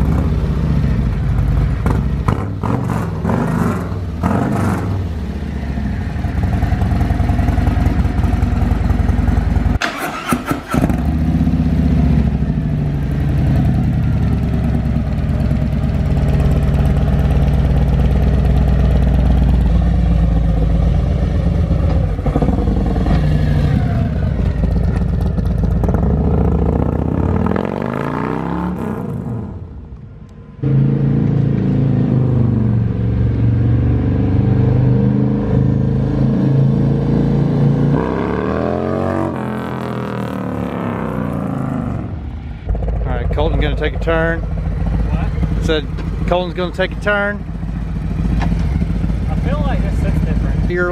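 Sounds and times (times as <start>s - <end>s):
motorcycle engine revving: 0.0s - 29.8s, 30.6s - 50.9s.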